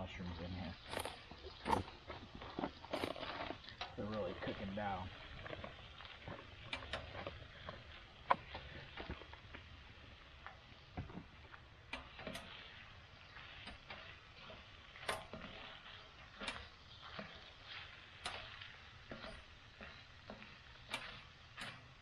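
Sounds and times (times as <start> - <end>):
food sizzling in a pan: 0.0 - 22.0
utensil clicking and scraping pan: 0.8 - 9.7, 11.9 - 22.0.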